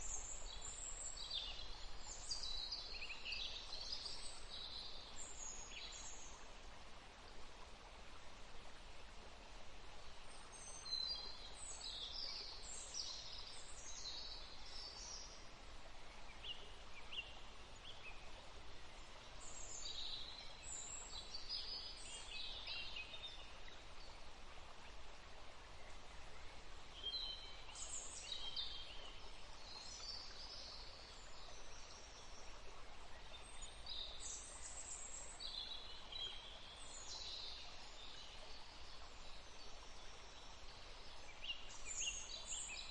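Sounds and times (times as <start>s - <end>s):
steady background hiss: 0.0s - 42.9s.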